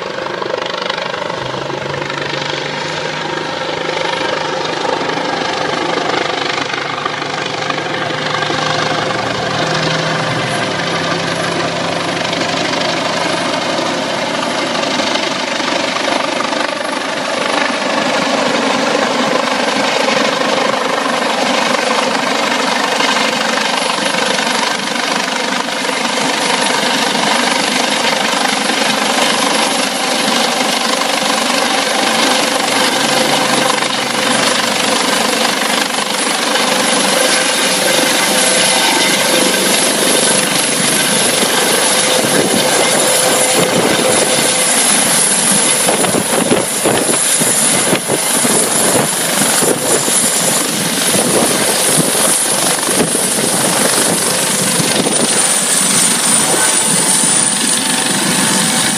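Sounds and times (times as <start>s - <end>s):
helicopter rotor and turbine: 0.0s - 58.9s.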